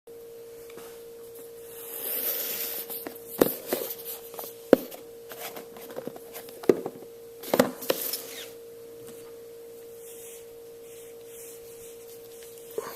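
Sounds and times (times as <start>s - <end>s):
faint steady hum: 0.1s - 12.9s.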